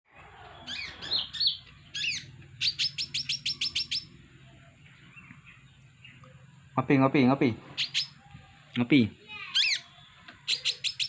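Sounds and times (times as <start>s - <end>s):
small bird singing: 0.1s - 11.0s.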